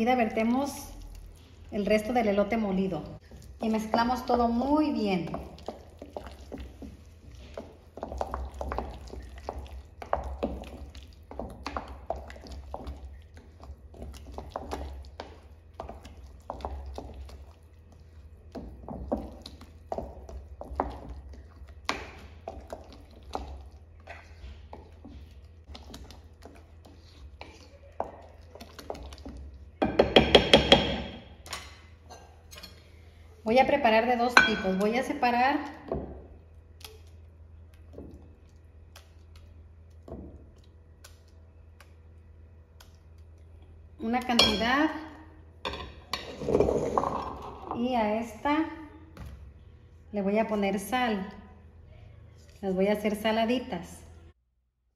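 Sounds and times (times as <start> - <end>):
spoon stirring thick batter: 0.0 - 31.7, 32.5 - 47.9.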